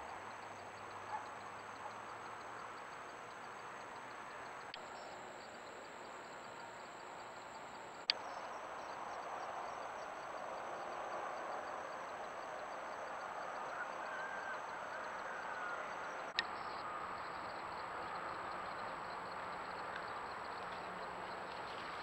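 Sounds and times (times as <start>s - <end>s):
faint high whine: 0.0s - 22.0s.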